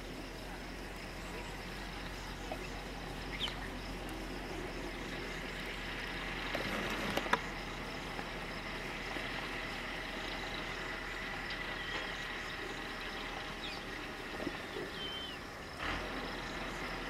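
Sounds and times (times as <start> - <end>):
distant tractor engine: 0.0 - 17.0
high insect drone: 0.0 - 17.0.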